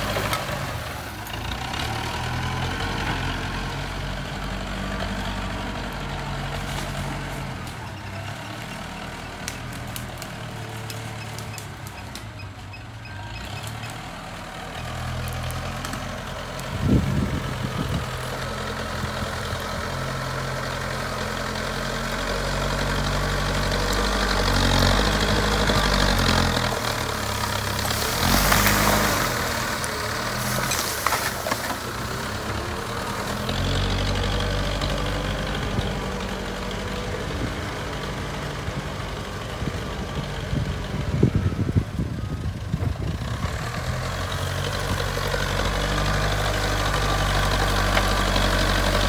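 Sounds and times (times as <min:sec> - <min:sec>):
diesel engine revving: 0:00.0 - 0:49.0.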